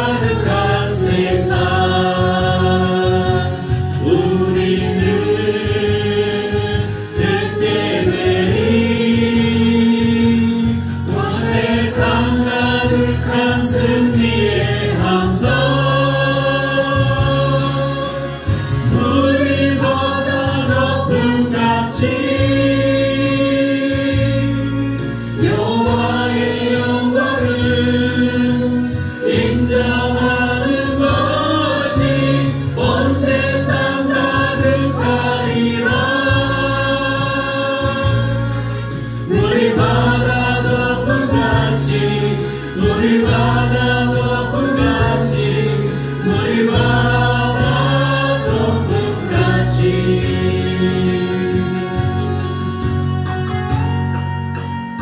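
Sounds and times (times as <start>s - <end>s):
group singing into microphones: 0.0s - 53.2s
instrumental accompaniment: 0.0s - 55.0s.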